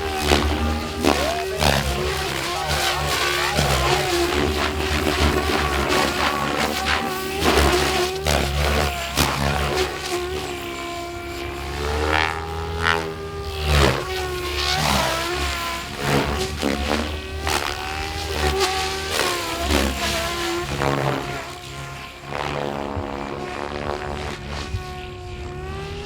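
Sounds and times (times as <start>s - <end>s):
model helicopter motor whine: 0.0s - 26.0s
rotor blade noise bursts: 0.0s - 26.0s.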